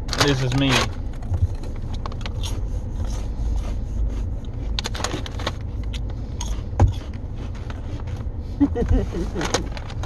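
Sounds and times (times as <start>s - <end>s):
low car rumble: 0.0s - 10.0s.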